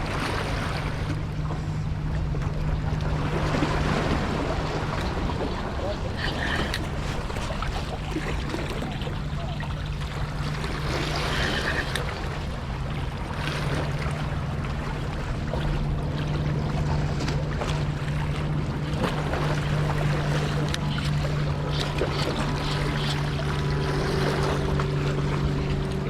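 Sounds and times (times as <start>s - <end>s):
low engine hum: 0.0s - 26.0s
water noise: 0.0s - 26.0s
wind: 0.0s - 26.0s.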